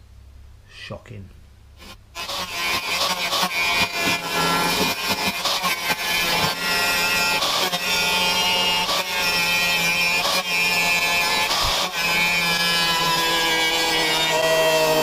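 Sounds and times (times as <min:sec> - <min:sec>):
angle grinder cutting steel: 0:01.8 - 0:15.0.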